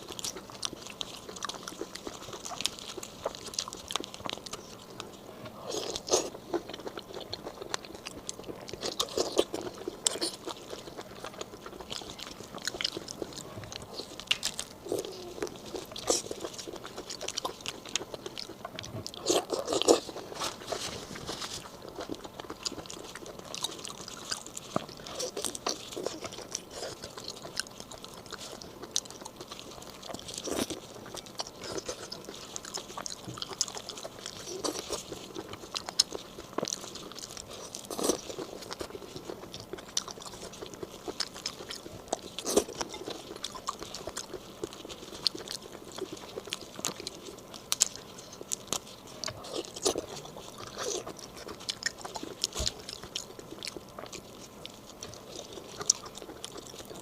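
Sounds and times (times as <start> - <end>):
chewing and crunching shrimp: 0.0 - 57.0.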